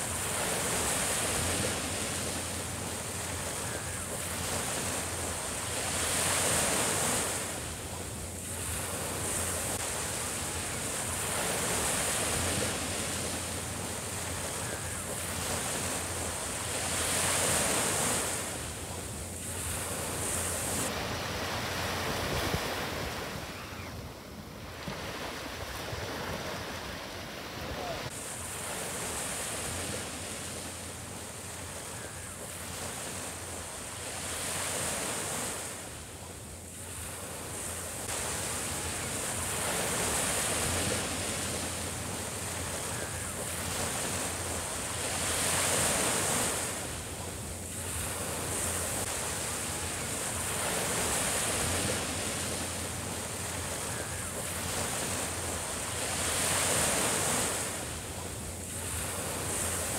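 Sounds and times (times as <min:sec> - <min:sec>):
waves washing up a sandy beach: 0:00.0 - 0:59.9.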